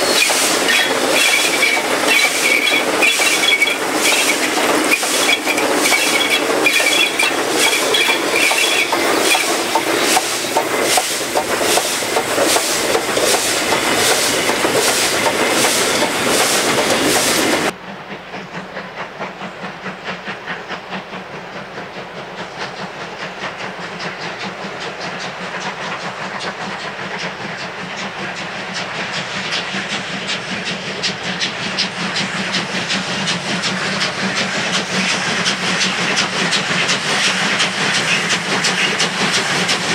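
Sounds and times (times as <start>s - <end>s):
rapid steam exhaust beats: 0.0s - 39.9s
steam hiss: 0.0s - 39.9s
steam locomotive passing: 0.0s - 39.9s.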